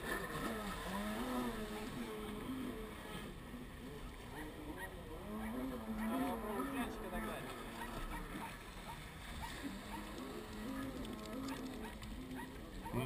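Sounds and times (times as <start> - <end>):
distant jet ski engine revving: 0.0 - 13.0.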